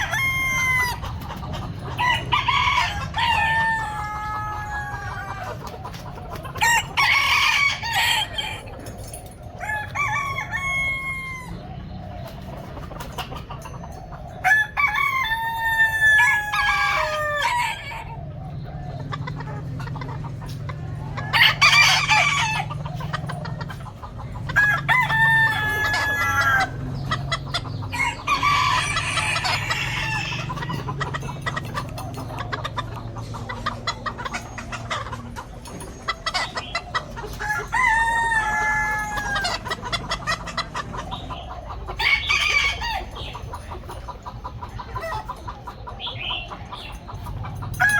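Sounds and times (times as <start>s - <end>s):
chickens squawking and clucking: 0.0s - 47.9s
roosters crowing: 0.0s - 47.9s.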